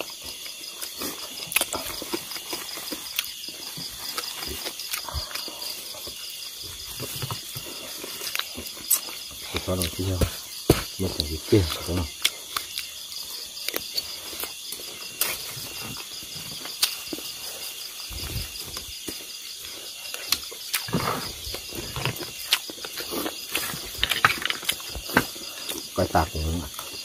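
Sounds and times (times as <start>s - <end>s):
insect trilling: 0.0s - 27.0s.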